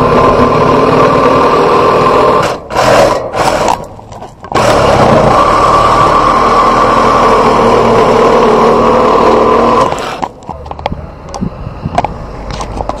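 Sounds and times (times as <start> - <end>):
power tool running: 0.0 - 12.4
low hum: 0.0 - 13.0.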